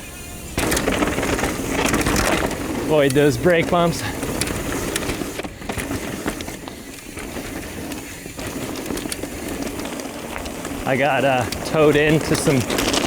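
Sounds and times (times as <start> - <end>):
bike tyres on dirt trail: 0.0 - 13.0
bike rattling clicks and knocks: 0.1 - 13.0.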